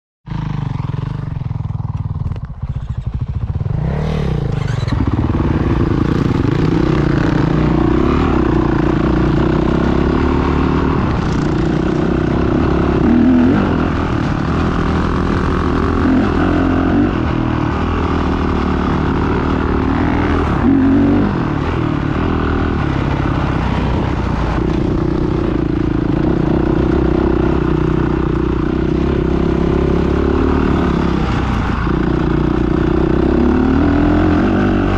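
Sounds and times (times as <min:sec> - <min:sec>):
motocross bike engine revving: 0:02.6 - 0:34.9.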